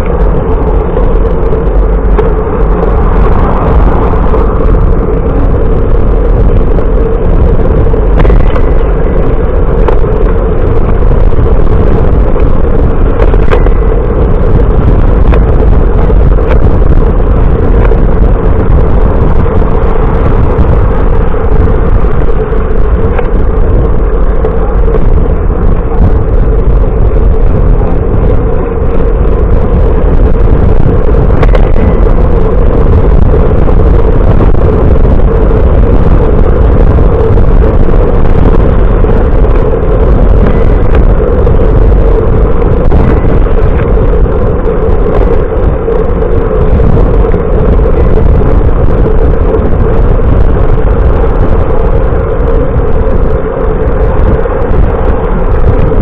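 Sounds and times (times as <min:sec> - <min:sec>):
hum: 0:00.0 - 0:56.0
low rumble: 0:00.0 - 0:56.0
wind and road noise: 0:00.0 - 0:56.0.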